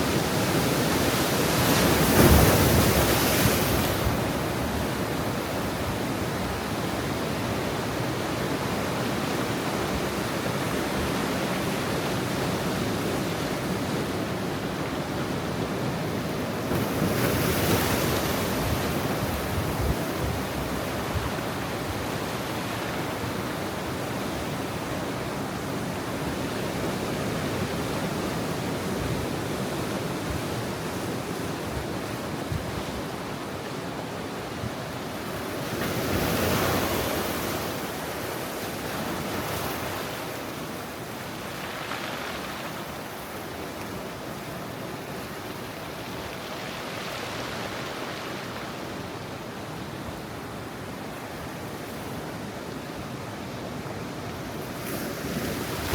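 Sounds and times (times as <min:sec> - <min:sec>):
ocean waves washing: 0:00.0 - 0:55.9.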